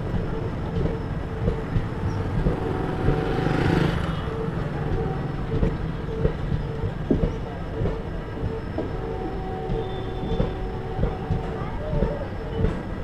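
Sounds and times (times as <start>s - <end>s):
rush of train noise: 0.0s - 13.0s
train wheel clacks and knocks: 0.0s - 13.0s
train wheels rumbling on track: 0.0s - 13.0s.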